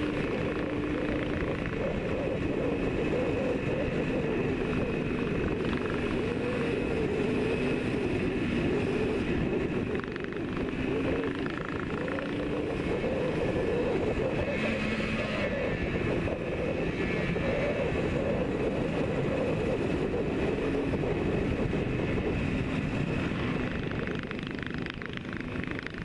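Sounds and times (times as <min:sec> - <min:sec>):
motorcycle engine cruising: 0:00.0 - 0:26.0
wind rush: 0:00.0 - 0:26.0.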